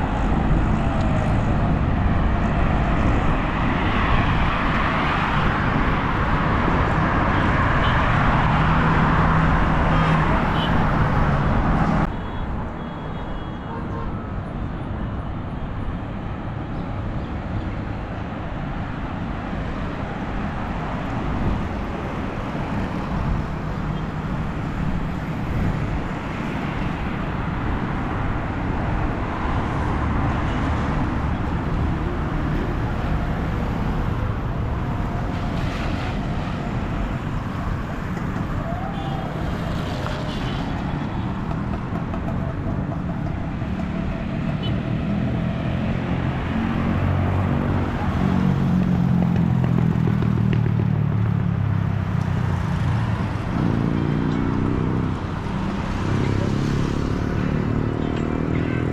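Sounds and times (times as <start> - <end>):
road traffic rumble: 0.0 - 58.9.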